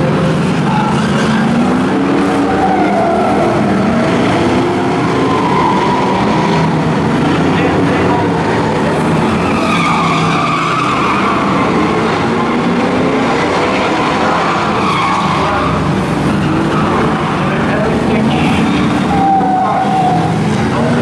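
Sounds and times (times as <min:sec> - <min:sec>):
race car engines revving: 0:00.0 - 0:21.0
tyres squealing: 0:00.7 - 0:21.0.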